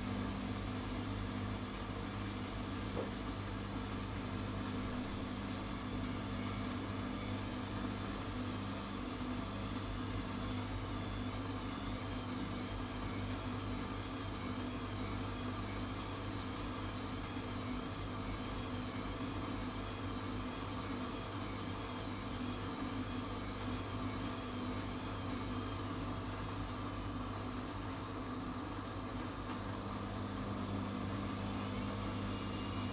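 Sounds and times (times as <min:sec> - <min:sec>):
washing machine motor hum: 0:00.0 - 0:32.9.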